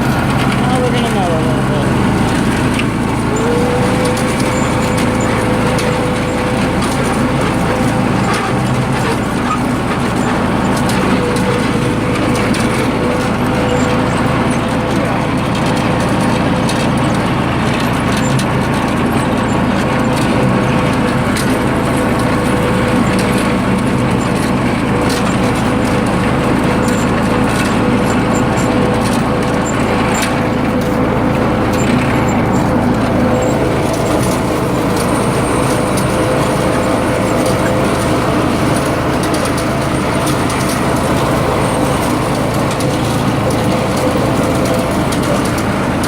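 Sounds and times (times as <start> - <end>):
riding mower engine running: 0.0 - 46.0.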